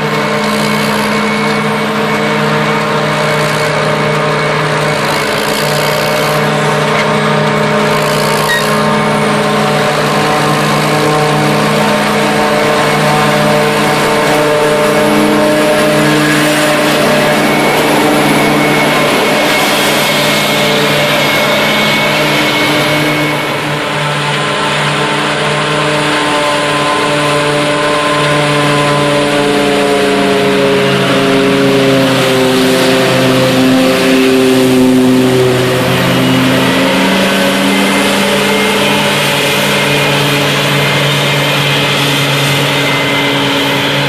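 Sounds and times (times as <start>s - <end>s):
forage harvester engine hum: 0.0s - 44.0s.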